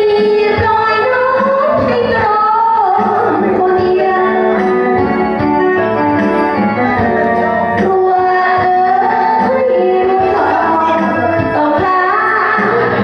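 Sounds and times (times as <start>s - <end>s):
woman singing into a microphone: 0.0s - 5.4s, 7.7s - 13.0s
backing music with steady beat: 0.0s - 13.0s.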